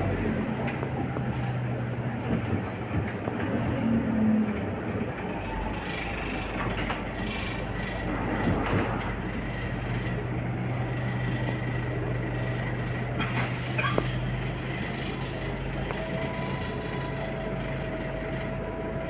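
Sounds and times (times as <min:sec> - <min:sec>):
bus engine droning: 0:00.0 - 0:19.0
road noise: 0:00.0 - 0:19.0.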